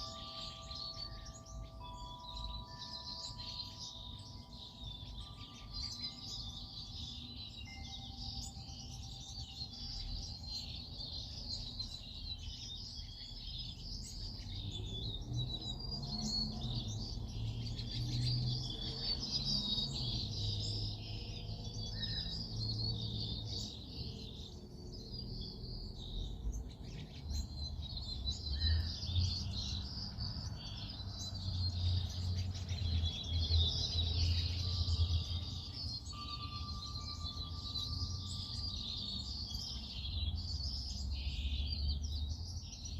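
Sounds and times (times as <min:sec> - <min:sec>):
small birds chirping and twittering: 0:00.0 - 0:42.9.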